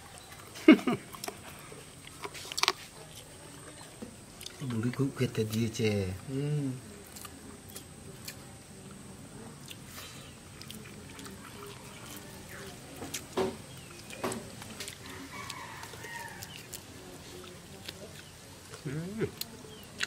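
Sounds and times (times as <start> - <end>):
faint background murmur: 0.0 - 20.0
soft chewing: 0.0 - 20.0.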